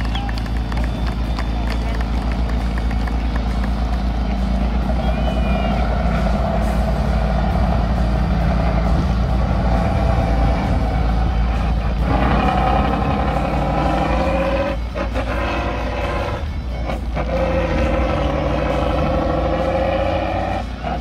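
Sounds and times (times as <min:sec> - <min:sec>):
truck engine working hard: 0:00.0 - 0:21.0.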